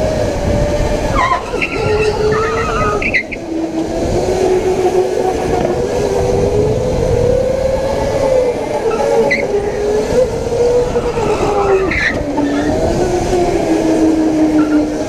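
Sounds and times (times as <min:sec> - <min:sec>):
electric motor whining: 0:00.0 - 0:15.0
tyre and track rumble: 0:00.0 - 0:15.0.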